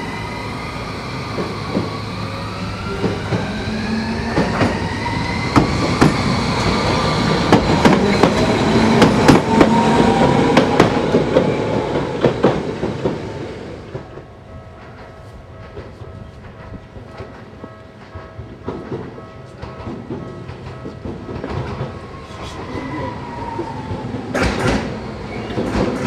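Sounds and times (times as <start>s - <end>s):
tram wheels clacking over rail joints: 1.2s - 26.0s.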